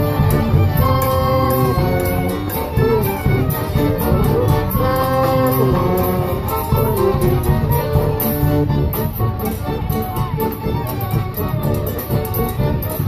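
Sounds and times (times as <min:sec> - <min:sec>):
accordions: 0:00.0 - 0:13.0
bass drum and snare beat: 0:00.0 - 0:13.0
clarinet: 0:00.0 - 0:13.0
fiddles: 0:00.0 - 0:13.0
flute: 0:00.0 - 0:13.0.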